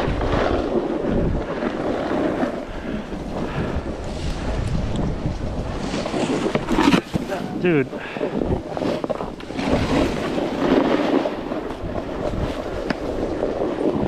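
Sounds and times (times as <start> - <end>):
snowboard running through snow: 0.0 - 14.0
wind rushing over microphone: 0.0 - 14.0.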